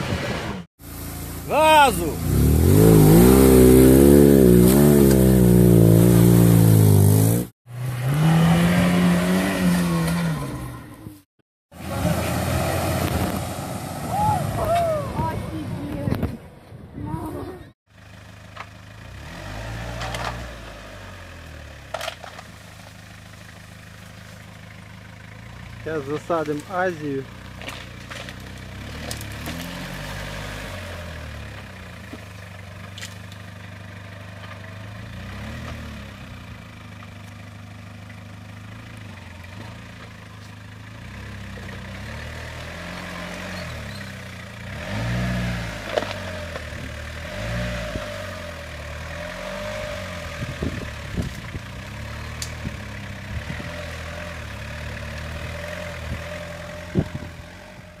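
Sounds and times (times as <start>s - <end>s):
off-road vehicle engine revving: 0.0s - 16.3s, 17.1s - 58.0s.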